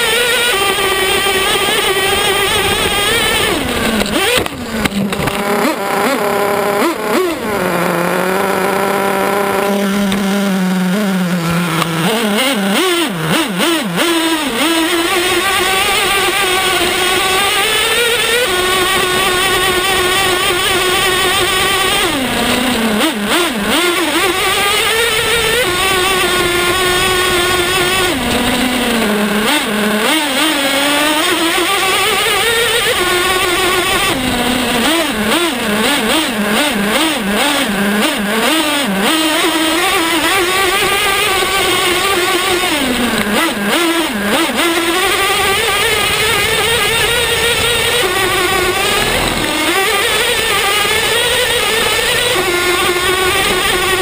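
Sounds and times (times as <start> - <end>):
small two-stroke engine revving: 0.0 - 54.0.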